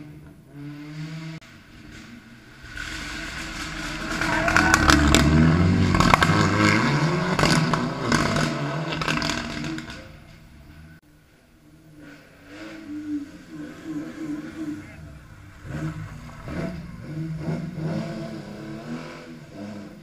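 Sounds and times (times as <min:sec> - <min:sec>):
rally car engine: 0:00.0 - 0:20.0.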